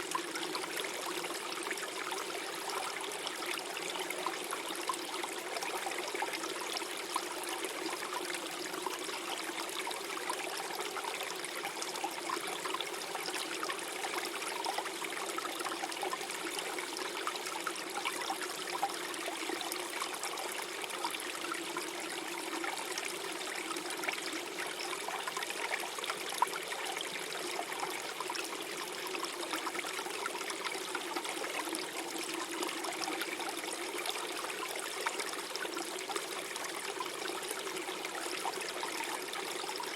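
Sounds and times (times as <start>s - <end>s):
stream gurgling over rocks: 0.0s - 39.9s.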